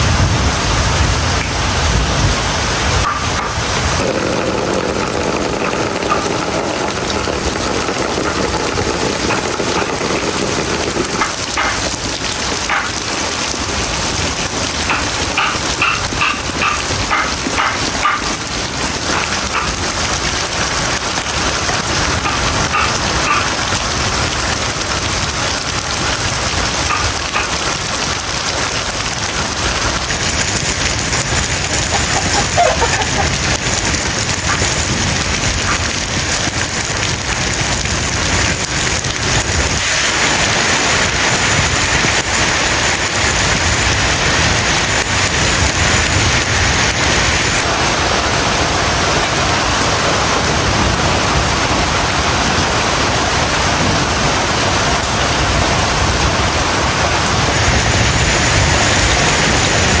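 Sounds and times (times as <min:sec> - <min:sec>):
heavy rain pouring: 0:00.0 - 1:00.0.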